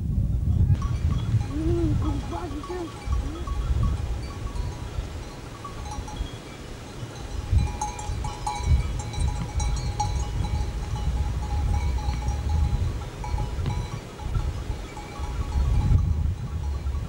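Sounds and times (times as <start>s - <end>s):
sheep bells clinking: 0.5s - 17.0s.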